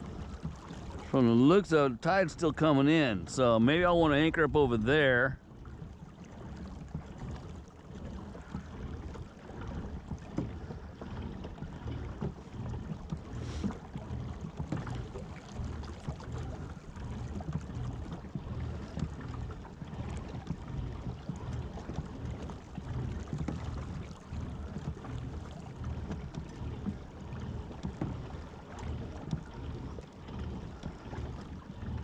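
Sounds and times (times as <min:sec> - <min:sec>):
water splashing against kayak hull: 0:00.0 - 0:32.0.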